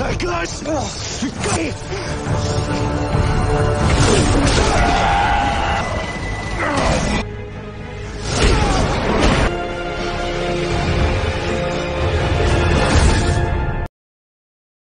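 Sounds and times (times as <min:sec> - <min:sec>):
dramatic film score: 0:00.0 - 0:13.9.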